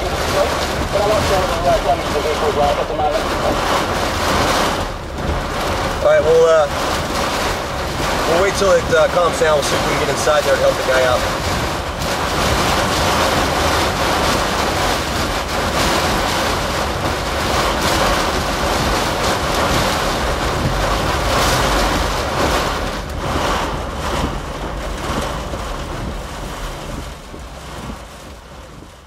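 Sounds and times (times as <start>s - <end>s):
wind and rain battering car: 0.0s - 29.0s.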